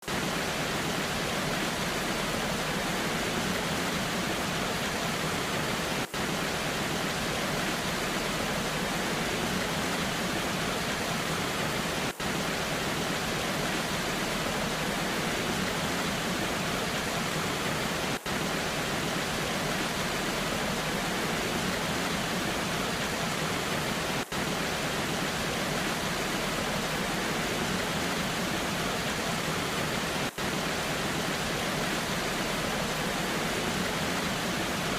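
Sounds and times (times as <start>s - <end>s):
rain: 0.0s - 34.9s
waterfall rushing: 0.0s - 34.9s.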